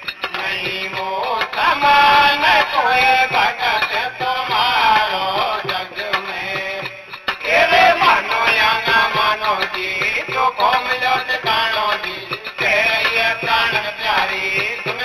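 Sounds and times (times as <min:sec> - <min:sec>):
instrumental accompaniment: 0:00.0 - 0:15.0
man singing through loudspeakers: 0:00.0 - 0:15.0.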